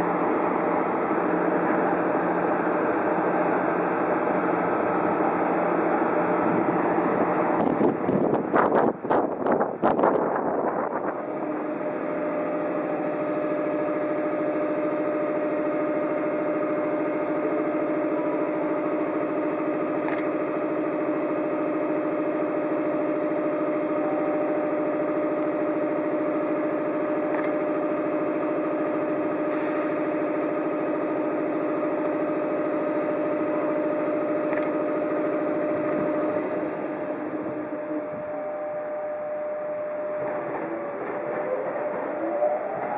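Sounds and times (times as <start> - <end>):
locomotive cooling blowers humming: 0.0 - 42.9.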